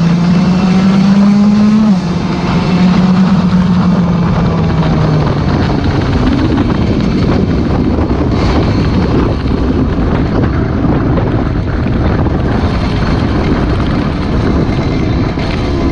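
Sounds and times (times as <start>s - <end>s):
motorcycle engine running: 0.0s - 15.9s
wind on microphone: 0.0s - 15.9s.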